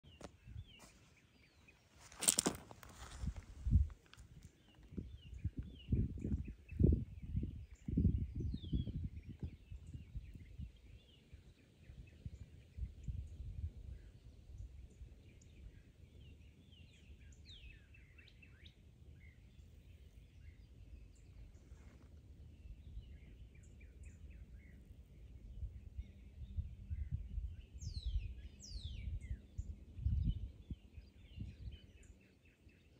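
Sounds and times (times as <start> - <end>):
wind rumble on microphone: 0.0 - 1.0, 2.1 - 32.9.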